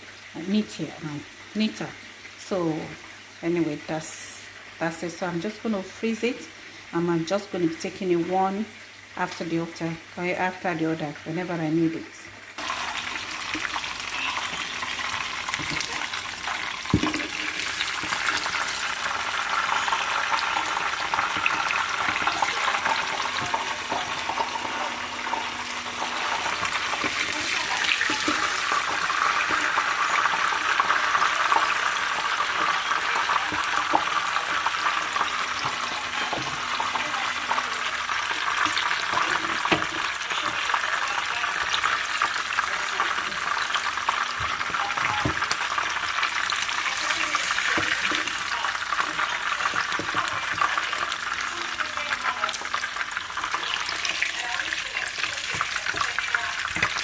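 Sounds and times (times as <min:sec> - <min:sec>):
fish sizzling in hot oil: 0:00.0 - 0:09.5, 0:12.4 - 0:57.0.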